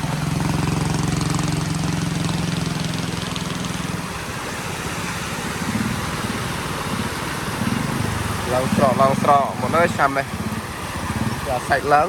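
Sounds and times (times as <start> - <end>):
small engine running: 0.0 - 12.0
steady rushing noise: 0.0 - 12.0.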